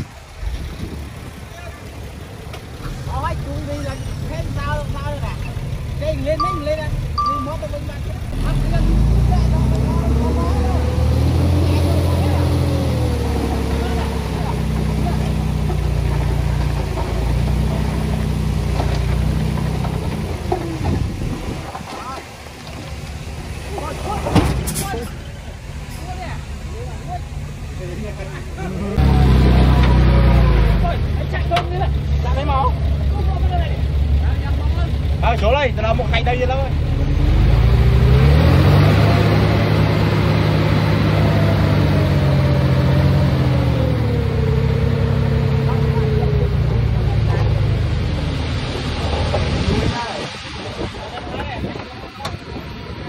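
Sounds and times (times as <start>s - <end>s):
diesel truck engine running: 0.0s - 51.1s.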